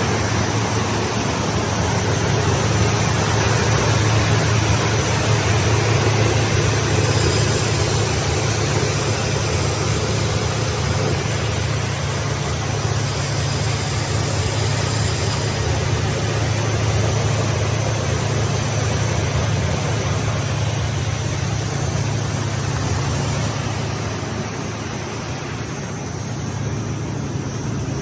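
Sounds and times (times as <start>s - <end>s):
sanding rolls hissing: 0.0s - 25.5s
motor hum: 0.0s - 28.0s.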